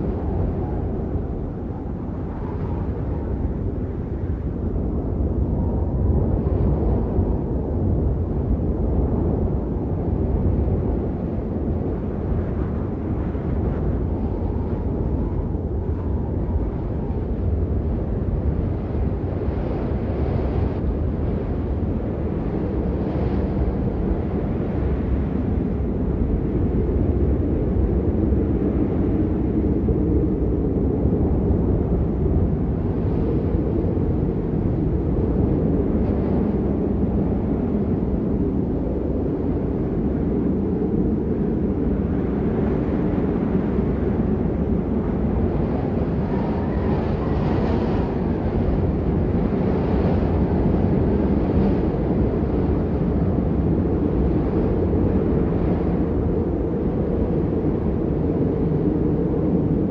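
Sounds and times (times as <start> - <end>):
howling blizzard wind: 0.0 - 59.9.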